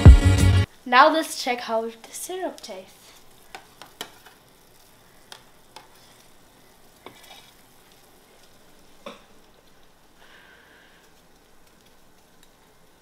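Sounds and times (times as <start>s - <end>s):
syrup sizzling: 0.2s - 13.0s.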